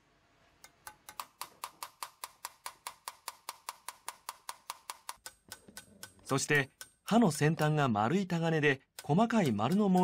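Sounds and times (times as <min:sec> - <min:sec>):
hammer tapping metal chisel: 0:00.6 - 0:07.9, 0:08.9 - 0:10.0.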